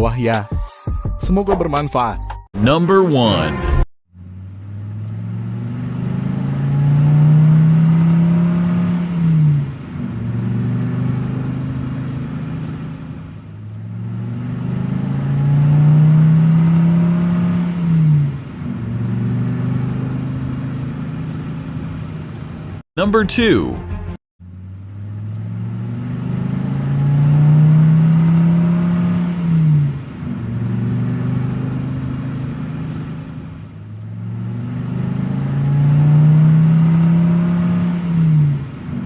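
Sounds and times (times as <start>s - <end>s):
car engine accelerating: 4.2s - 22.6s, 24.5s - 39.0s.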